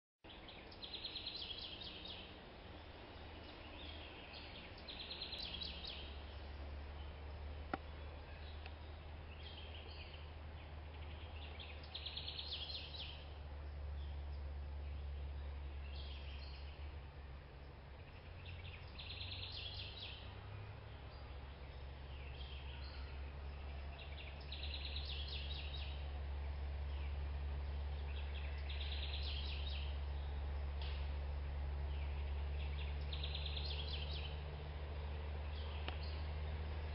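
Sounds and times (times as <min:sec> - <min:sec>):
birds chirping in trills: 0:00.3 - 0:36.9
steady low hum: 0:00.3 - 0:36.9
steady low rumble: 0:01.4 - 0:36.9.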